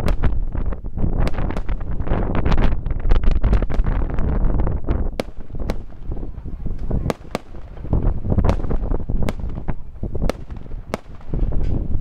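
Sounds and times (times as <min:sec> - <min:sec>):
firework bangs and crackles: 0:00.0 - 0:12.0
steady low rumble: 0:00.0 - 0:12.0.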